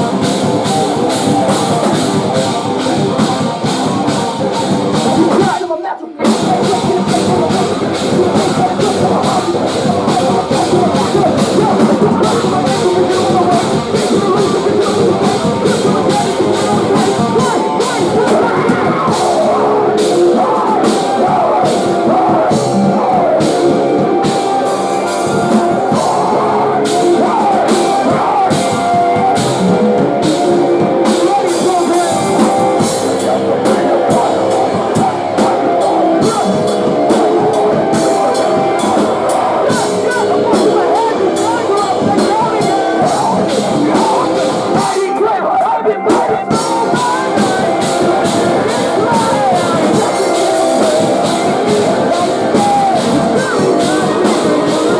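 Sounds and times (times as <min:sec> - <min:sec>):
drum kit: 0:00.0 - 0:54.9
electric guitars: 0:00.0 - 0:54.9
person singing: 0:00.0 - 0:54.9.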